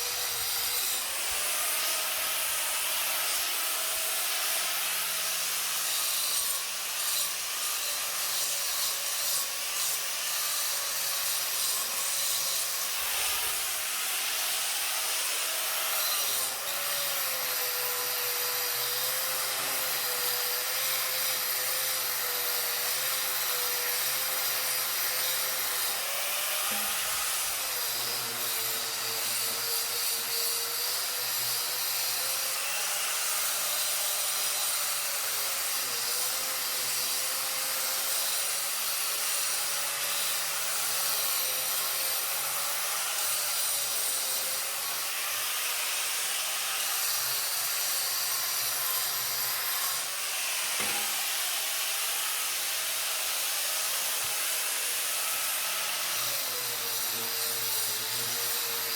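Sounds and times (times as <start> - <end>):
power tool grinding: 0.0 - 58.9.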